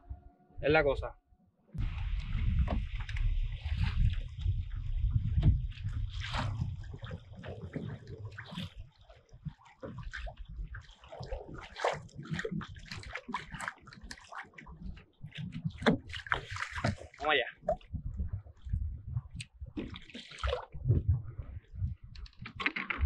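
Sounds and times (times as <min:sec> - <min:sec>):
small waves splashing against hull: 0:01.8 - 0:23.0.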